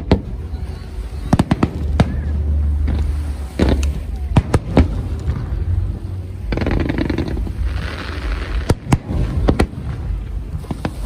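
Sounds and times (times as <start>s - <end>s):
fireworks bangs: 0.0s - 11.0s
fireworks crackling: 0.0s - 11.0s
low rumble: 0.0s - 11.0s.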